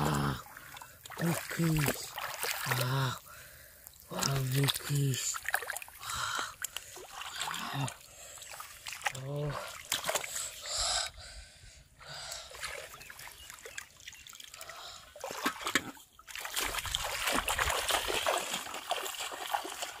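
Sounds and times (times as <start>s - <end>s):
water splashing and sloshing: 0.0s - 10.8s, 12.1s - 20.0s.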